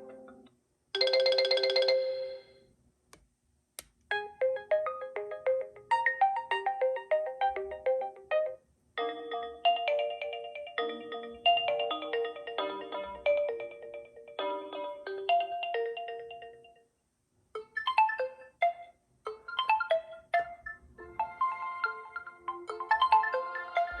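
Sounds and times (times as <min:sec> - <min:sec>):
phone ringtone melody: 0:01.0 - 0:02.6, 0:04.1 - 0:16.8, 0:17.6 - 0:24.0.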